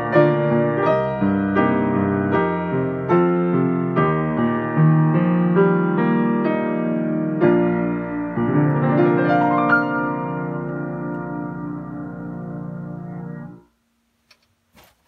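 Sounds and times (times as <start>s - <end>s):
grand piano chords: 0.0s - 13.8s.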